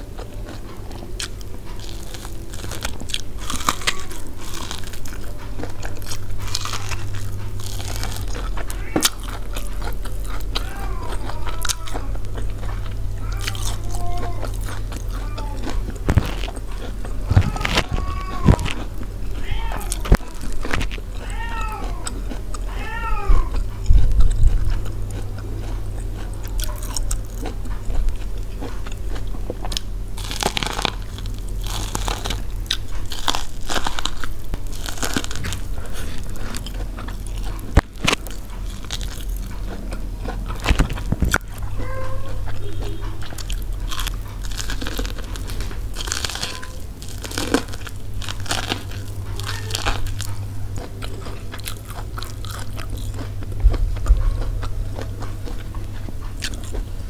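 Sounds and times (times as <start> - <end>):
biting corn crunches: 0.0 - 41.7, 42.4 - 56.9
chewing: 0.0 - 57.0
steady low hum: 0.0 - 57.0.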